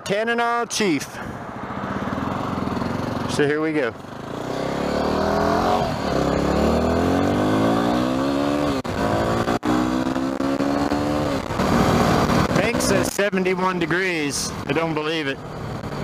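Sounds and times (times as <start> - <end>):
motorcycle engine accelerating: 1.5 - 16.0.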